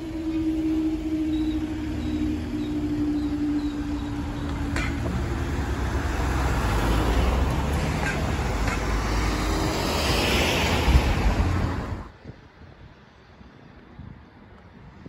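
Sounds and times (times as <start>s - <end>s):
car passing: 0.0s - 12.1s
traffic rumble of engines and tyres: 0.0s - 15.0s.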